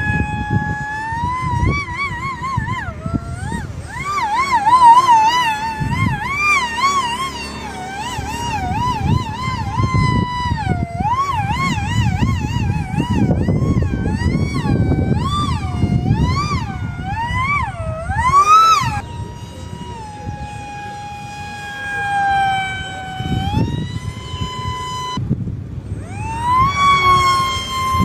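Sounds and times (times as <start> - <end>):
electric motor and propeller whining: 0.0 - 28.0
rough rumbling noise: 0.0 - 28.0.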